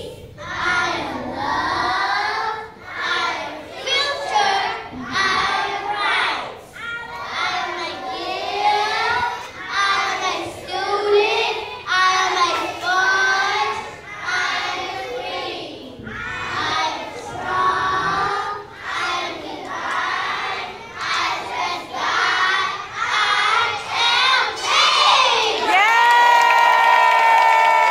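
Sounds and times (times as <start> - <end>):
children reciting in unison: 0.0 - 25.7.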